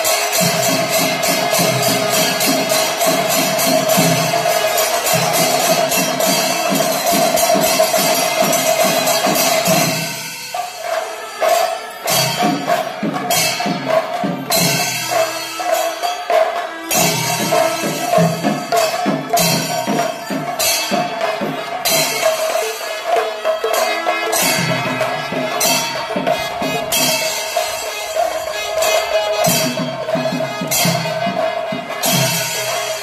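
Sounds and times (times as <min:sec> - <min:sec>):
hand cymbals clashing: 0:00.0 - 0:33.0
rhythmic drumming: 0:00.0 - 0:33.0.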